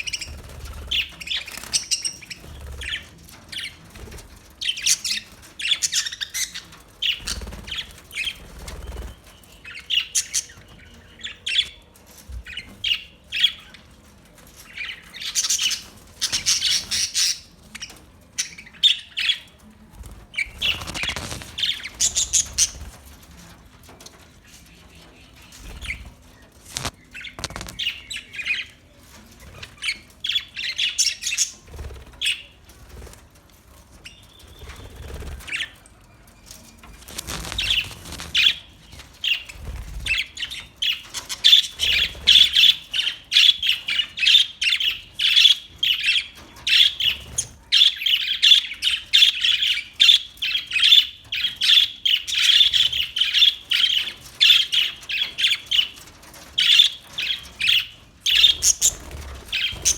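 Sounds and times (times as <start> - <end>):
budgerigars chirping and squawking: 0.0 - 13.9, 14.6 - 23.1, 24.9 - 28.8, 29.5 - 33.2, 34.0 - 35.8, 37.0 - 59.9.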